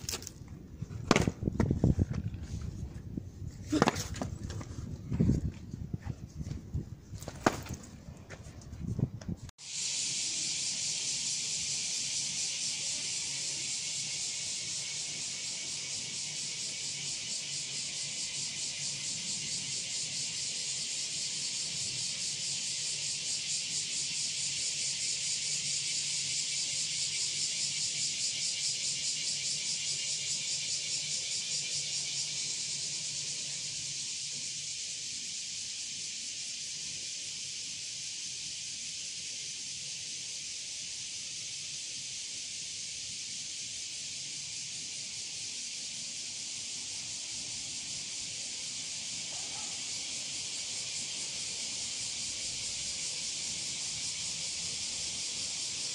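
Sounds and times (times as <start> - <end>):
cicadas buzzing: 0.0 - 6.5, 9.6 - 55.9.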